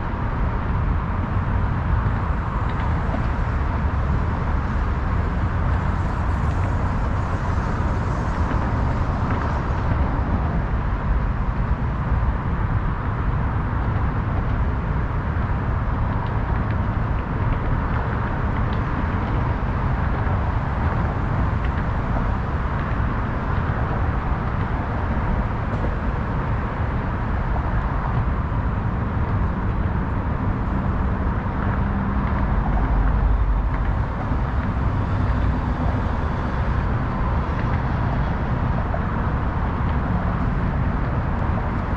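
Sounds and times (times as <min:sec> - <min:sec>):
city traffic rumble: 0:00.0 - 0:41.9.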